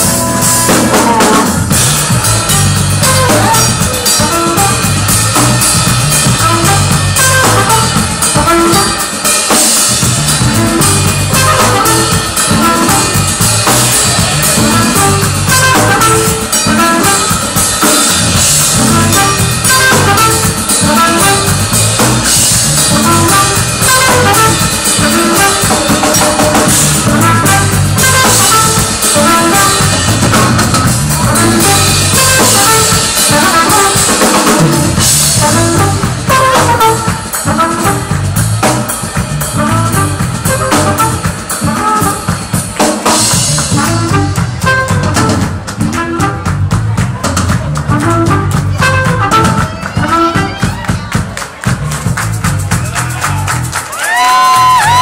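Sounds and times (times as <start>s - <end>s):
bass guitar: 0.0s - 55.0s
drum kit beat: 0.0s - 55.0s
live band playing: 0.0s - 55.0s.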